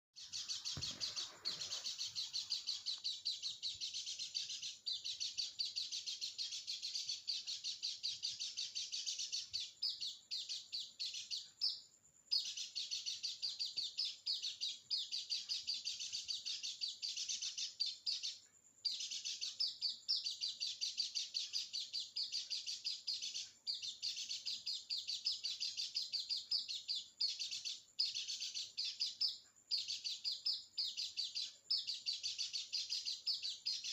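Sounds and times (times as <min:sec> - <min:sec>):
bird twittering song: 0:00.2 - 0:33.9.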